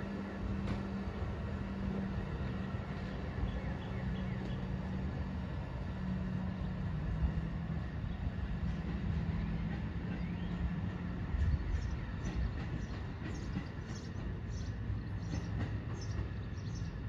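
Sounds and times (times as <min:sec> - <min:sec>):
train rumbling away: 0:00.0 - 0:17.0.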